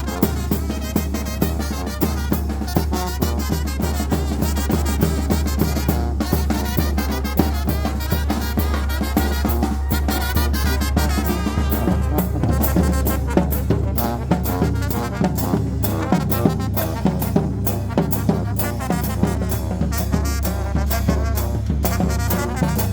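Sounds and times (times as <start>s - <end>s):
brass band playing dance tune: 0.0s - 22.9s
drum and cymbal beat: 0.0s - 22.9s.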